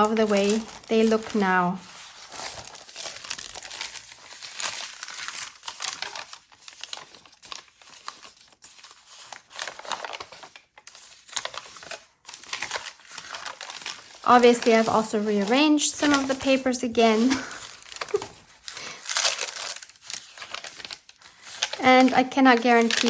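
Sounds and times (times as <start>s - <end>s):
paper pages rustling and crinkling: 0.0s - 23.0s.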